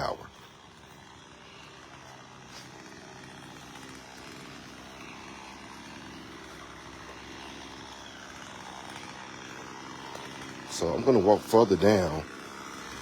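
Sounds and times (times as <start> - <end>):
distant engine droning: 0.0 - 13.0.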